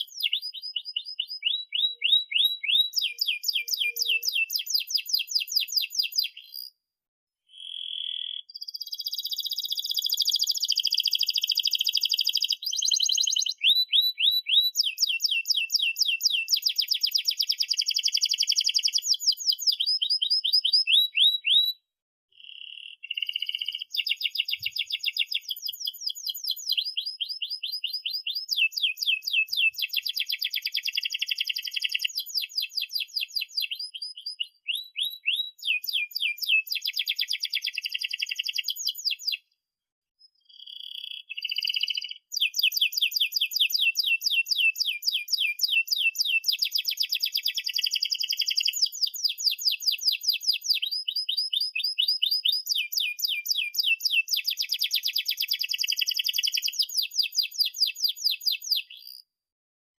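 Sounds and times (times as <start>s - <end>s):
canary singing trills: 0.0s - 6.8s, 7.5s - 21.8s, 22.4s - 39.5s, 40.2s - 59.3s.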